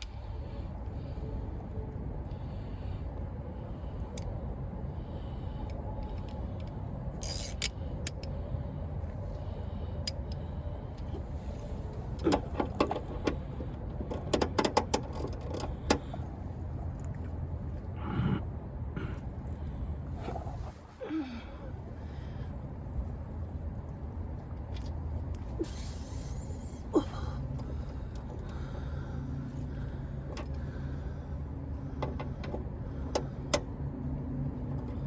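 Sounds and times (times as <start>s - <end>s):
steady low rumble: 0.0s - 35.0s.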